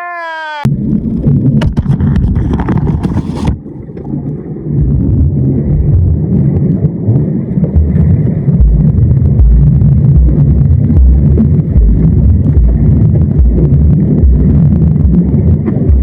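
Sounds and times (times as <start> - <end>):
wind buffeting microphone: 0.7 - 16.0.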